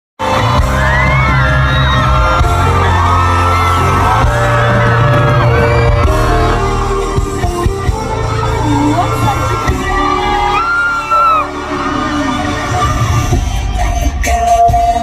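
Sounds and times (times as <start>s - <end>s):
crowd screaming and whooping: 0.2s - 14.4s
loud pop music with heavy bass: 0.2s - 15.0s.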